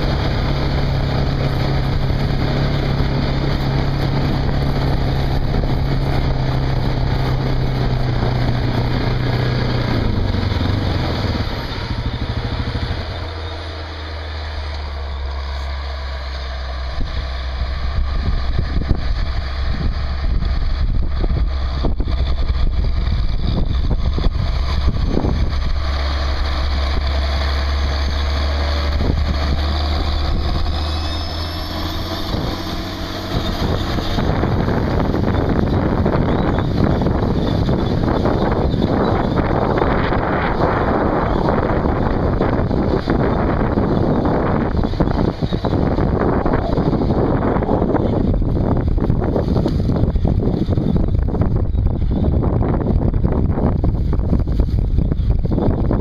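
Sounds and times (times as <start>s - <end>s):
turbocharger whistle: 0.0s - 48.9s
tractor diesel engine running: 0.0s - 56.0s.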